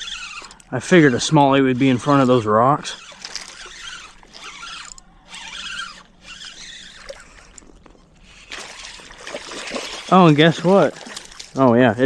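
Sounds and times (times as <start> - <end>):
fishing reel whirring: 0.0 - 11.7.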